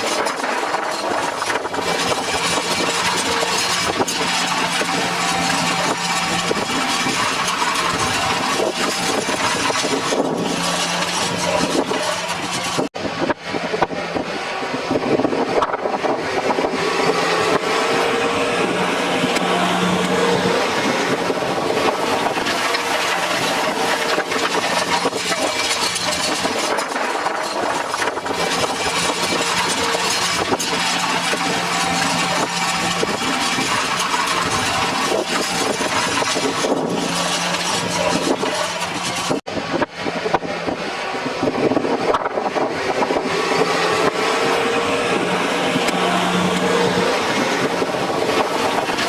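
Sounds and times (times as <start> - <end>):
mechanical clatter: 0.0 - 49.0
tractor engine running: 0.0 - 49.0.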